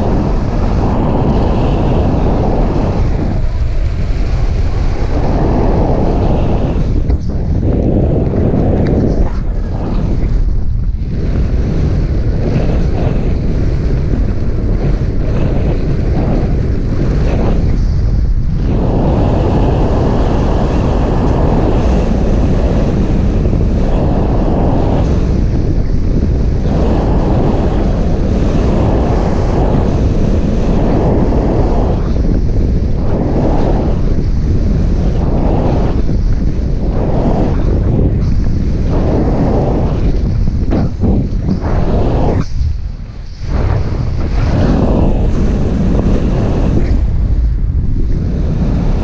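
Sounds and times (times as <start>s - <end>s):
wind rushing over microphone: 0.0s - 49.0s.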